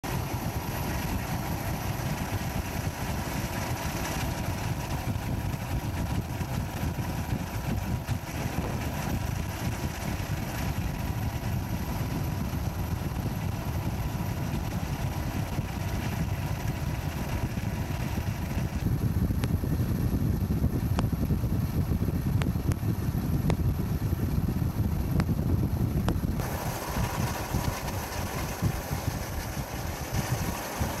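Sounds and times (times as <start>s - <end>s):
boat engine running: 0.1s - 31.0s
wind on microphone: 0.1s - 31.0s.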